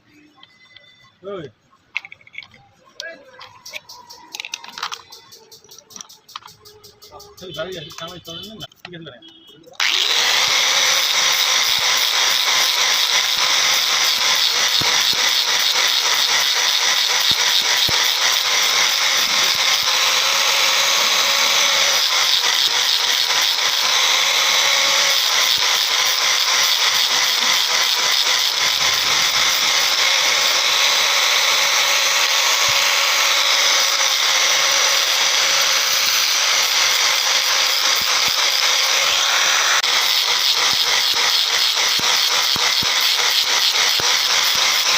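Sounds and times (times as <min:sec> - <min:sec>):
power tool on metal: 0:03.6 - 0:08.8, 0:09.8 - 0:44.9.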